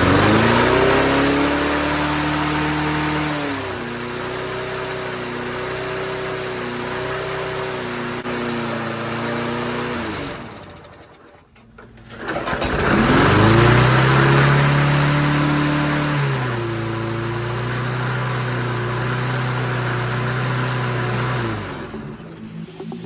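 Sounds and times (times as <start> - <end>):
lawnmower engine running: 0.0 - 23.0.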